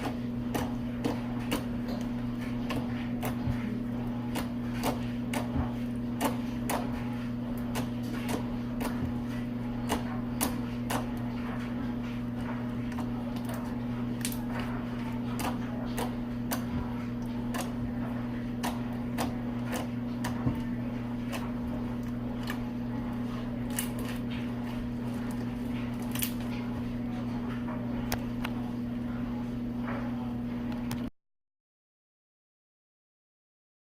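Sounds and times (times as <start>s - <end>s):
steady low hum: 0.0s - 31.1s.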